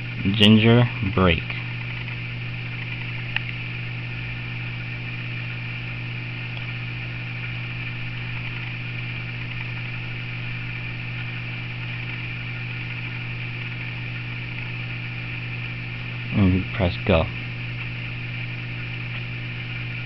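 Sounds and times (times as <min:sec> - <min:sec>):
constant hiss: 0:00.0 - 0:20.0
electrical hum: 0:00.0 - 0:20.0.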